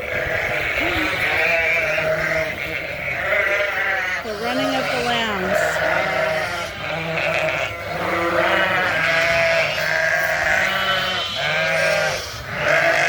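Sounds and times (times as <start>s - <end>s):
sheep and lambs bleating: 0.0s - 13.0s.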